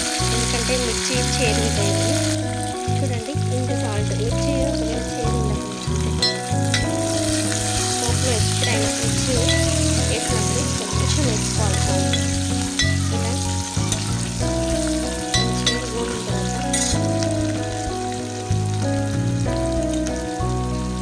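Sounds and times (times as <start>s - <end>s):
background music with bass line: 0.0s - 21.0s
vegetables sizzling in hot oil: 0.0s - 21.0s.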